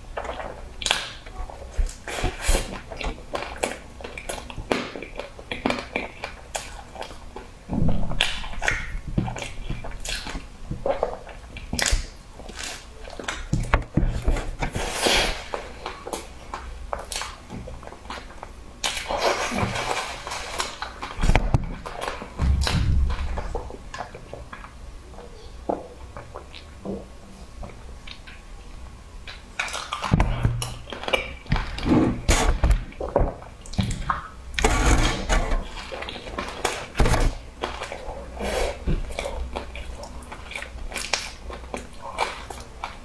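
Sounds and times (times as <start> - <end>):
chewing and wet mouth sounds: 0.1 - 27.0, 27.6 - 28.5, 29.2 - 34.4, 35.6 - 43.0.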